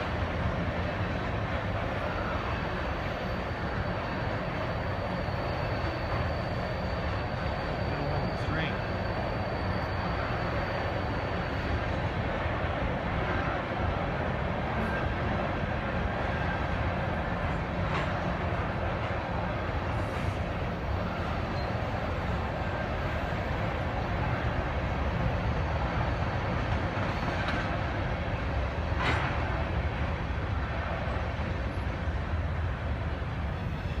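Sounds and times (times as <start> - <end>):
train clank: 0.0 - 24.5, 25.1 - 32.2
freight train rolling past: 0.0 - 34.0.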